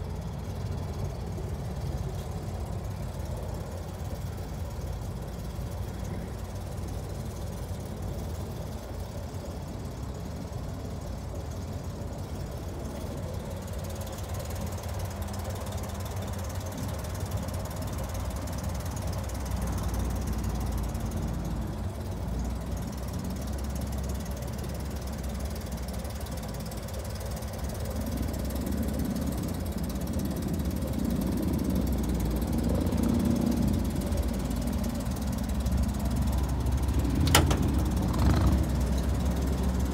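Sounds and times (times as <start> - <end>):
van engine running: 0.0 - 39.9.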